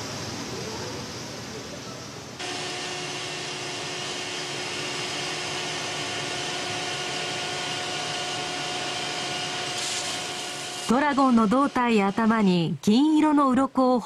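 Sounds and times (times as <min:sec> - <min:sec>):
workshop machine hiss and whine: 0:00.0 - 0:13.4.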